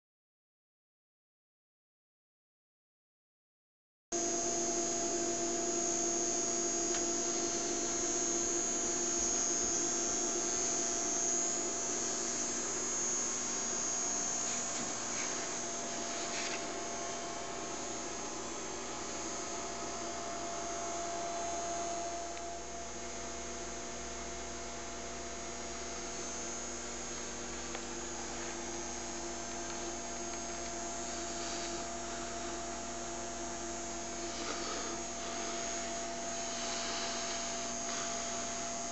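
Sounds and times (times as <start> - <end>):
toy train motor whine and hum: 4.2 - 38.9.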